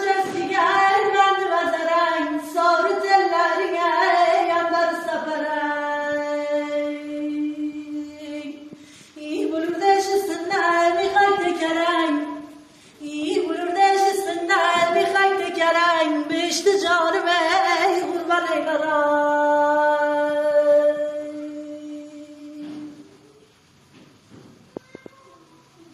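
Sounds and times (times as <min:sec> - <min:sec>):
woman singing unaccompanied: 0:00.0 - 0:23.2.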